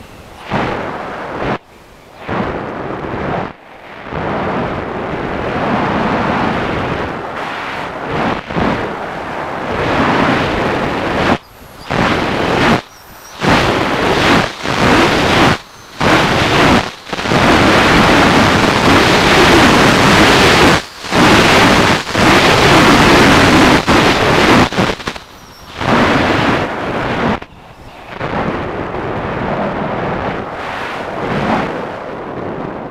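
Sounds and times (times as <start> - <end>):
propeller noise: 0.0 - 32.1
wind rushing: 0.0 - 32.9.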